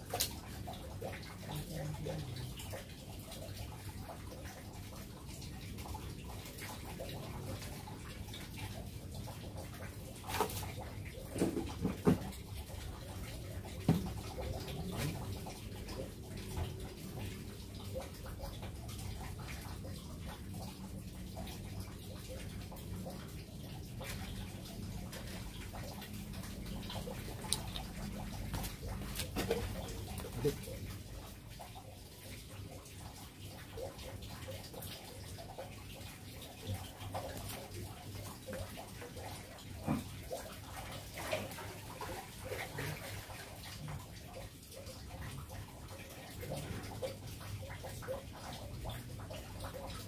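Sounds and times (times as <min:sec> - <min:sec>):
faint running water: 0:00.0 - 0:50.0.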